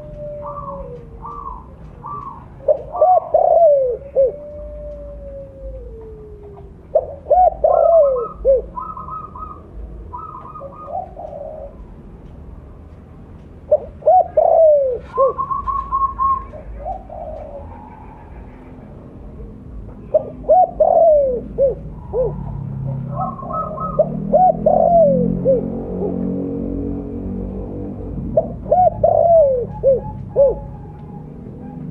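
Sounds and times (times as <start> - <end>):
dove cooing: 0.0 - 12.1, 13.6 - 26.3, 28.2 - 31.9.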